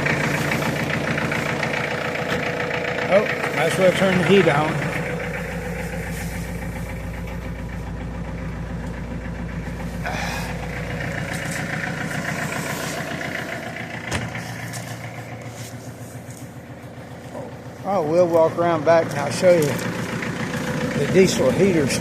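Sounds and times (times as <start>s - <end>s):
diesel tractor engine idling: 0.0s - 22.0s.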